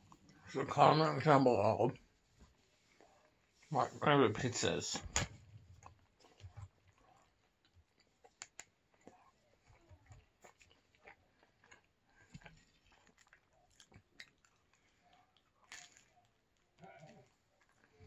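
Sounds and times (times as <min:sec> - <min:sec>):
faint chewing crunches: 0:00.0 - 0:18.0.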